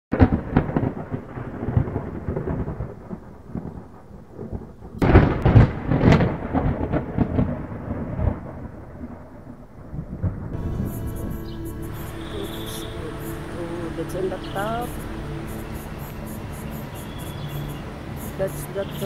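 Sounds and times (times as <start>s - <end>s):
thunder rumbling and crackling: 0.1s - 19.0s.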